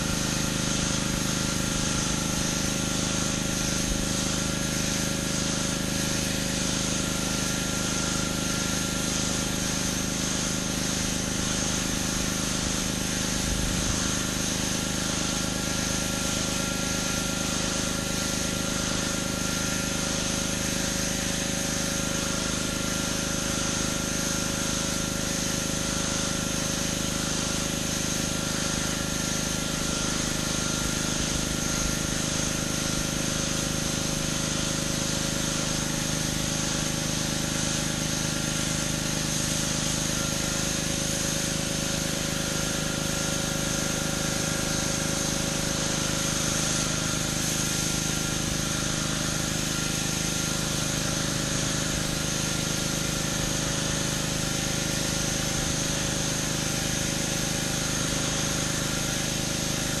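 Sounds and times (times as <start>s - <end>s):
high-pressure water spray hiss: 0.0s - 60.0s
pressure washer engine drone: 0.0s - 60.0s.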